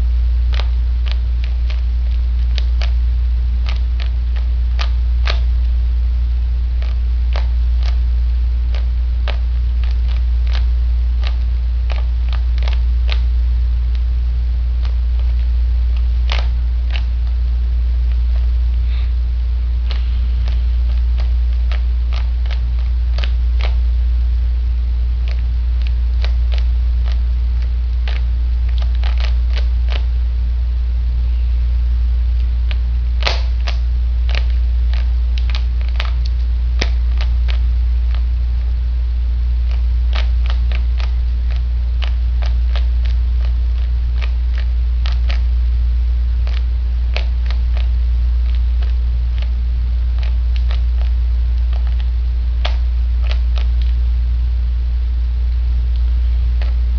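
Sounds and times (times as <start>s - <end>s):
low electrical hum: 0.0s - 56.9s.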